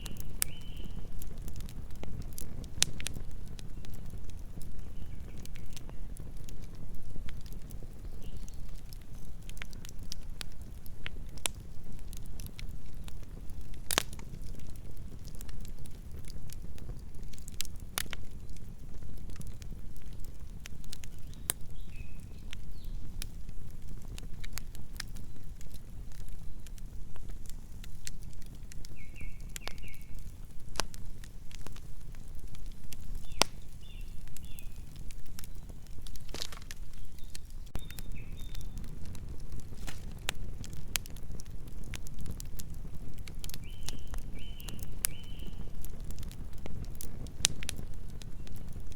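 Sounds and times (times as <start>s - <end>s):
firewood crackling and popping: 0.0s - 48.9s.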